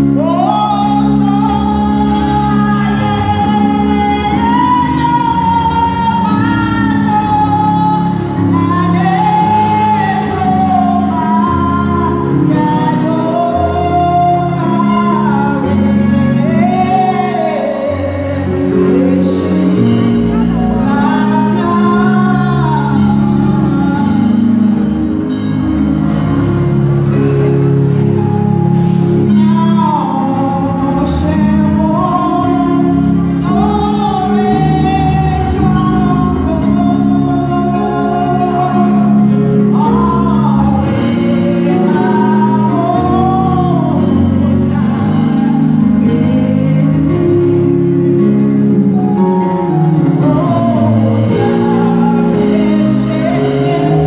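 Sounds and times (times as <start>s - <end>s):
woman singing into a microphone: 0.0s - 25.6s, 28.9s - 54.0s
accompanying chords: 0.0s - 54.0s.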